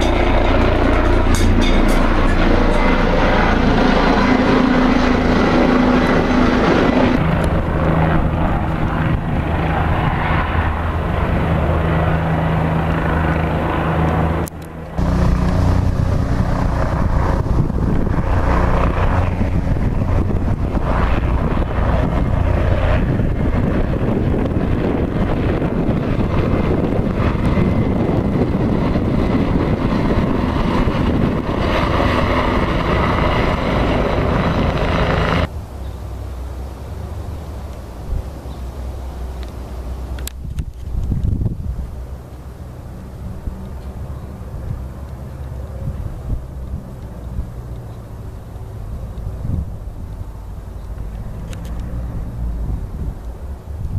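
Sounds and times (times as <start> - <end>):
helicopter flying past: 0.0 - 53.9.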